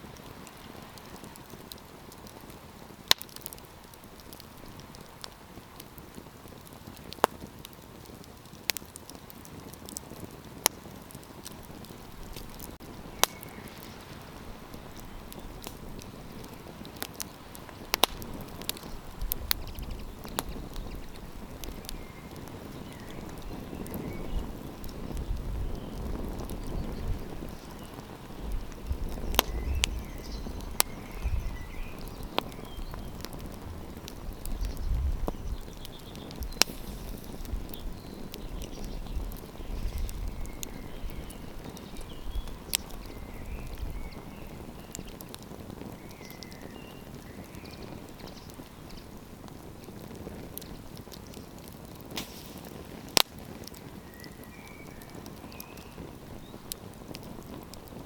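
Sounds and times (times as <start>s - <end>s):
campfire crackling and popping: 0.0s - 58.0s
wind rumble on microphone: 9.4s - 58.0s.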